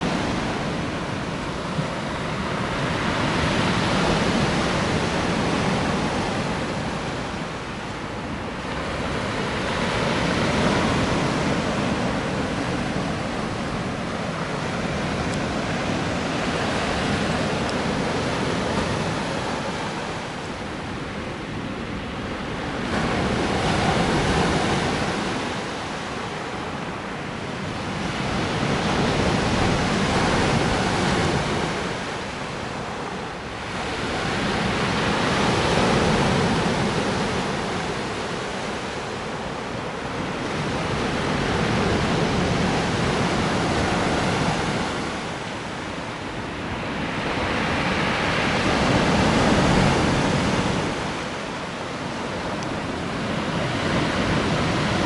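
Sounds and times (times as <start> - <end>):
waves breaking: 0.0 - 55.0.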